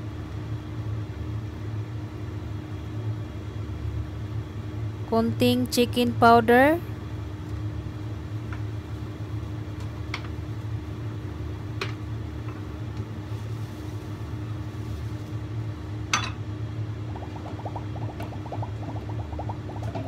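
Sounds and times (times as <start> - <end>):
low kitchen hum: 0.0 - 20.0.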